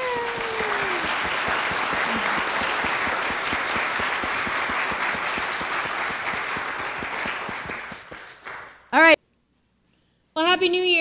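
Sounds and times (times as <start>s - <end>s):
crowd clapping: 0.0s - 9.0s.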